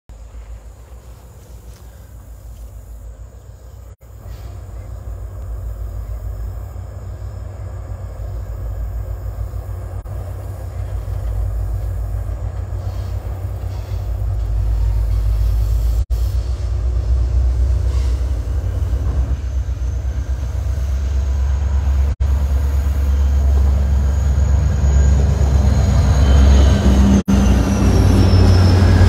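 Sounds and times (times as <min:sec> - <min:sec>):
distant train rumble: 0:00.1 - 0:29.0.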